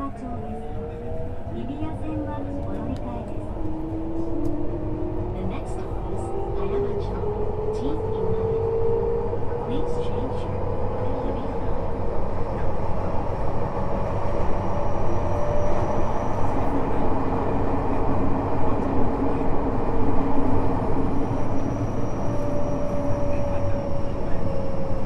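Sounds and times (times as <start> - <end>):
wheel and rail rumble: 0.0 - 25.0.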